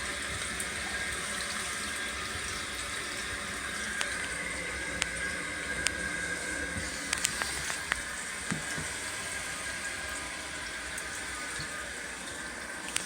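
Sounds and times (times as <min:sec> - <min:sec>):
toilet tank filling with water: 0:00.0 - 0:13.0.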